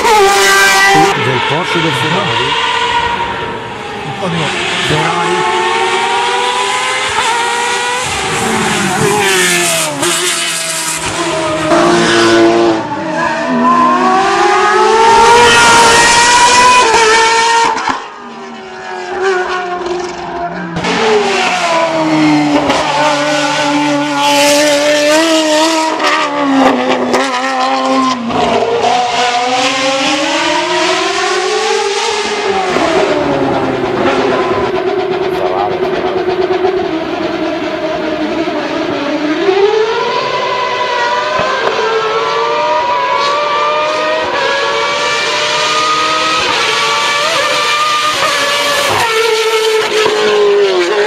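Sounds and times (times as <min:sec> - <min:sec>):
race car engine revving: 0:00.0 - 0:51.0.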